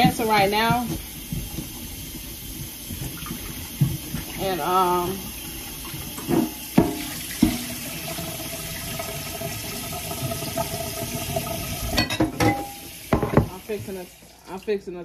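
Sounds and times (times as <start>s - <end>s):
tap running water into pan: 0.0s - 14.9s.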